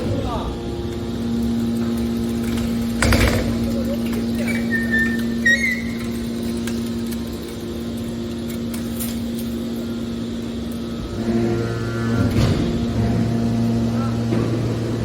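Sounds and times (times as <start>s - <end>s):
hydraulic baler hum: 0.0s - 15.0s.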